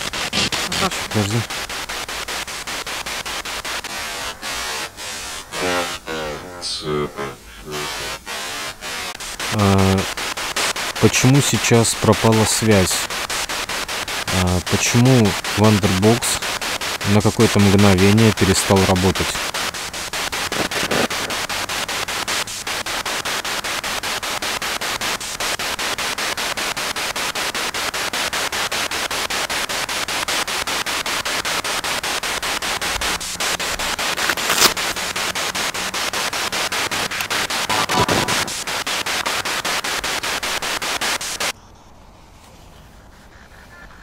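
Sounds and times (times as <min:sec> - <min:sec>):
loud crackles: 0:00.0 - 0:41.6
white noise static from speaker: 0:00.0 - 0:43.0.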